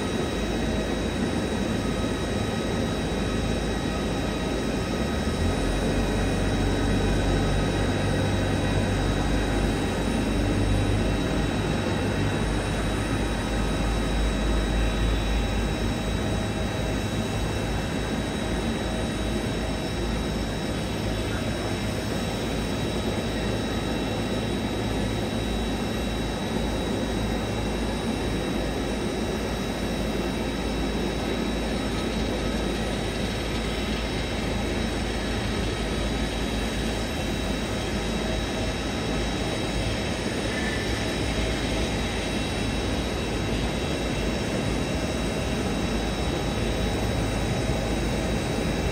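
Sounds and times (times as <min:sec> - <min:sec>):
jet engine noise: 0:00.0 - 0:48.9.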